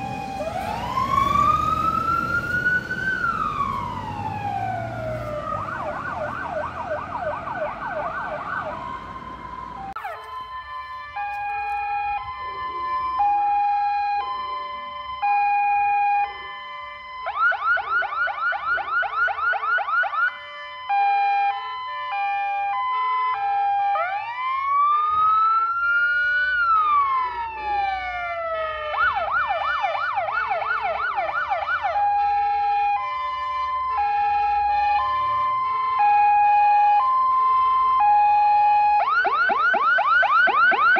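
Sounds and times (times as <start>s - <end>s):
fire engine siren: 0.0s - 40.9s.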